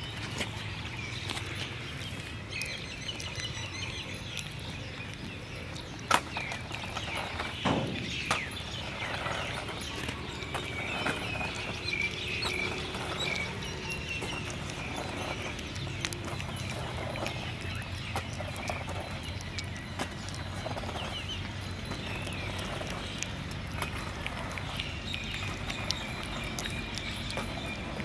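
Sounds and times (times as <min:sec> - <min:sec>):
puppy chewing wet food: 0:00.0 - 0:28.0.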